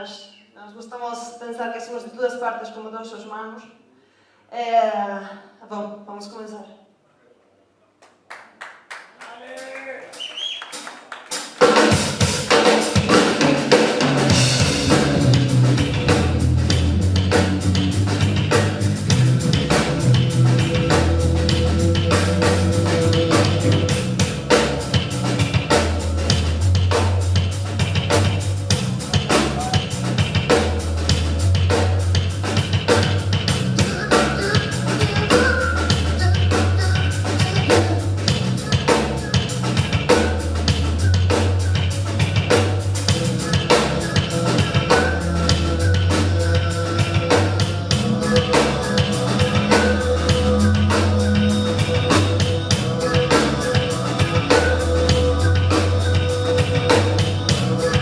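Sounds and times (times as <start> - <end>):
drum kit beat: 9.5 - 58.0
live rock band playing: 10.8 - 58.0.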